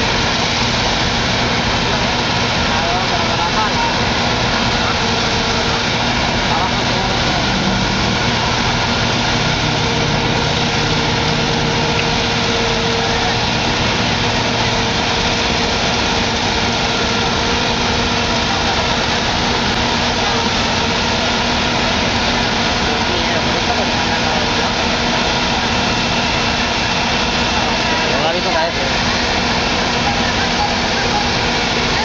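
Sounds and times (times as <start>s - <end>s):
deeper engine note: 0.0s - 32.0s
heavy diesel engines running: 0.0s - 32.0s.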